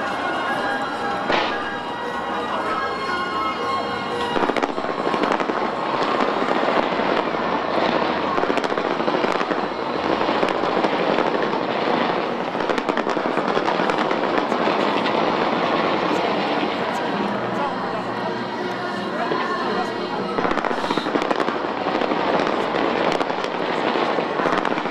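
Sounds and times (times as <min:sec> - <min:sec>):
fireworks crackling and banging: 0:00.0 - 0:24.9.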